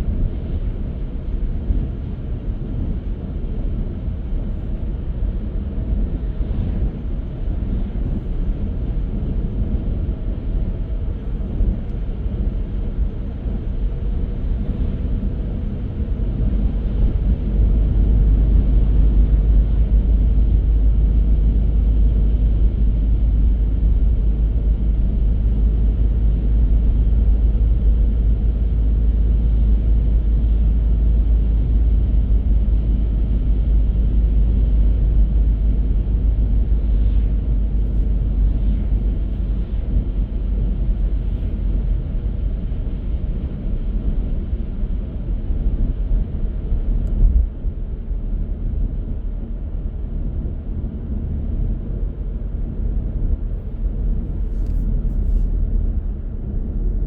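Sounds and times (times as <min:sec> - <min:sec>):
car road and tyre rumble: 0:00.0 - 0:57.0.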